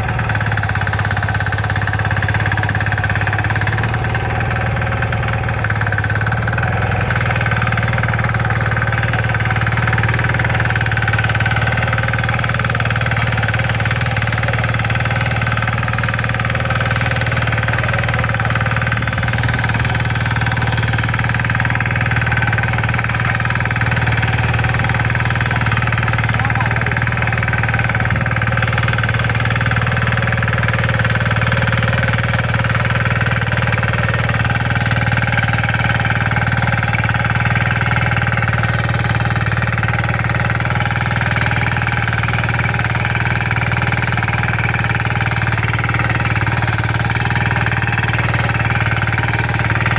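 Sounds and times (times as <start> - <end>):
diesel engine running steadily: 0.0 - 49.9.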